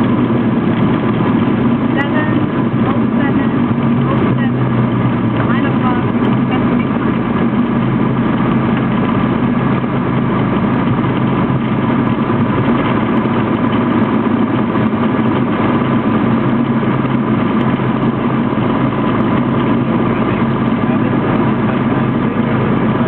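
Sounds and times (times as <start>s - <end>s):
airplane engine droning: 0.0s - 23.0s.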